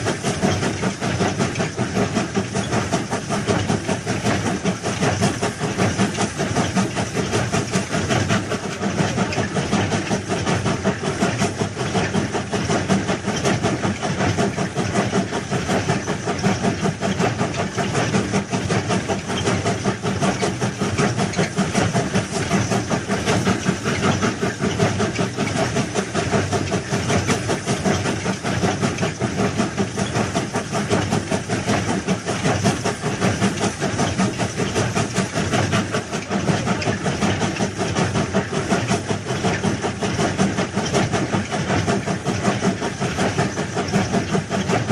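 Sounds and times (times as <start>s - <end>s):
track-laying machine clatter: 0.0s - 44.9s.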